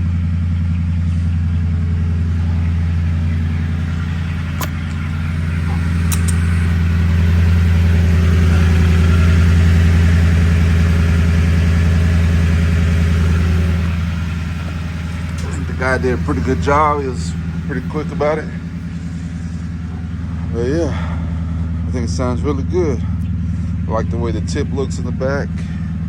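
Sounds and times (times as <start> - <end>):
engine idling exhaust drone: 0.0 - 26.0.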